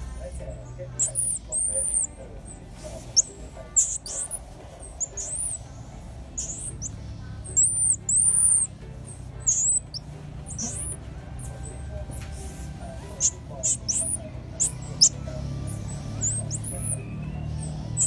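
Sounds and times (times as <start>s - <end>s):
baby monkey squeaky chirps: 0.3s - 18.0s.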